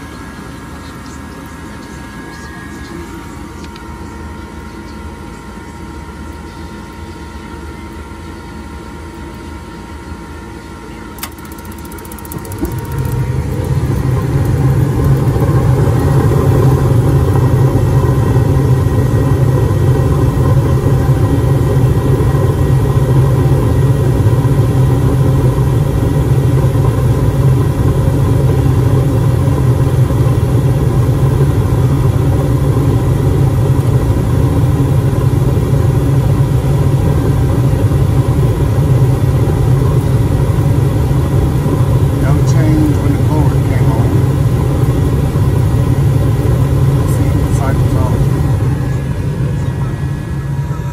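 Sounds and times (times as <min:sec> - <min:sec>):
gas furnace burners roaring: 0:00.0 - 0:50.9.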